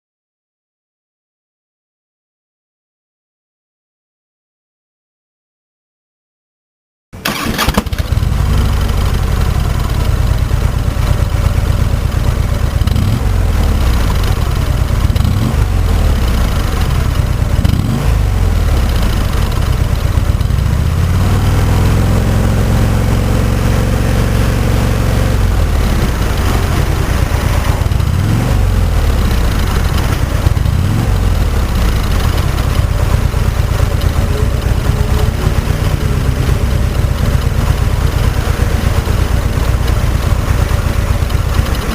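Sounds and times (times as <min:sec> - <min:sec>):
engine revs: 0:07.2 - 0:41.9
motorcycle engine starting and idling: 0:07.2 - 0:41.9.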